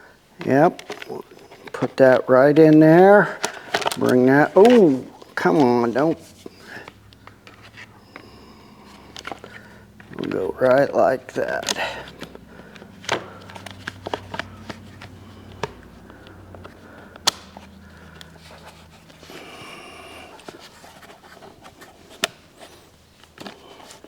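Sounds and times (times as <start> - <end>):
low steady hum: 0.0 - 24.0
clicks and knocks of parts handled: 0.4 - 2.0, 2.6 - 19.4, 20.4 - 24.0.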